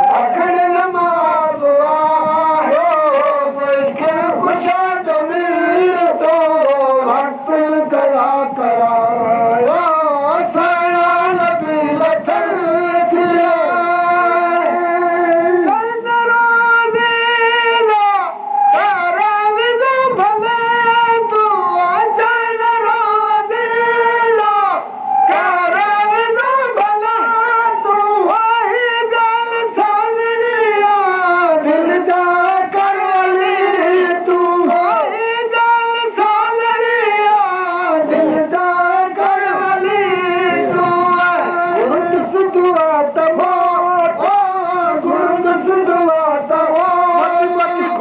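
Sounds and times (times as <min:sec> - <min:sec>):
person singing devotional song: 0:00.0 - 0:48.0.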